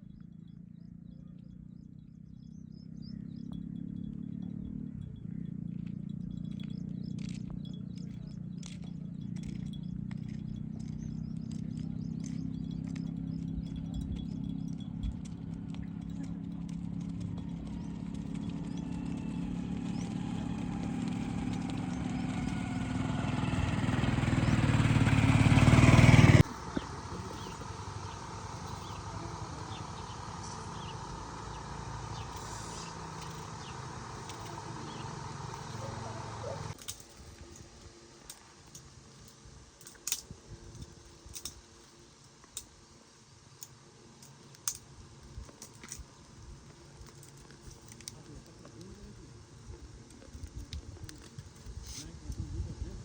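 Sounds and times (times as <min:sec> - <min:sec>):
engine approaching: 0:00.0 - 0:40.3, 0:43.9 - 0:53.0.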